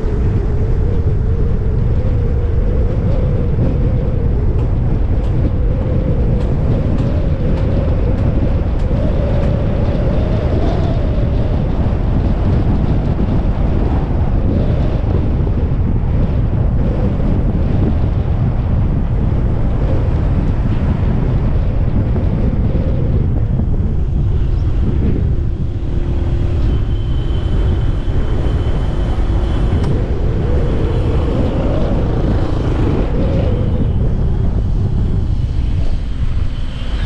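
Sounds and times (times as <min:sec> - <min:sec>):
car road noise: 0:00.0 - 0:37.0
wind rumbling on microphone: 0:00.0 - 0:37.0.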